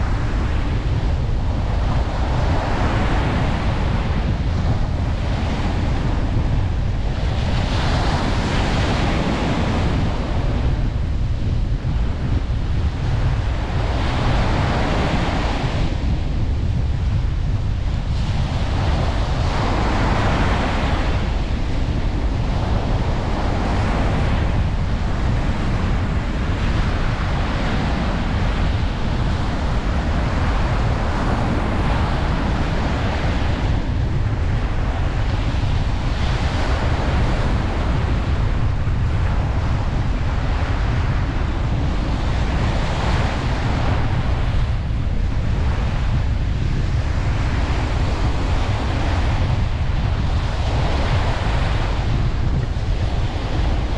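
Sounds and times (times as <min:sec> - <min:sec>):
ocean waves washing onto beach: 0:00.0 - 0:53.9
wind rumble on microphone: 0:00.0 - 0:53.9.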